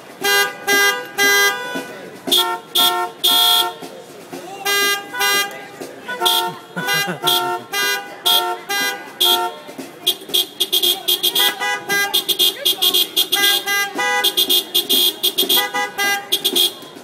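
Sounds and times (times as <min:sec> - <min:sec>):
car horns honking a tune: 0:00.2 - 0:03.9, 0:04.6 - 0:17.0.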